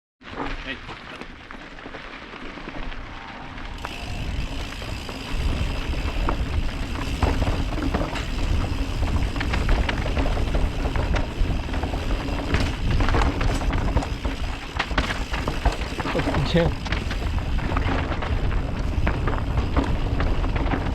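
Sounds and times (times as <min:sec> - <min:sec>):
wind rumble on microphone: 0:02.8 - 0:20.9
bike clattering on rocks: 0:03.7 - 0:20.9.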